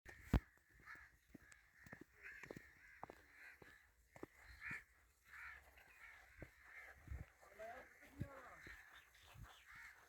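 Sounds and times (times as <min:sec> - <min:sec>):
birds calling: 0:00.1 - 0:10.0.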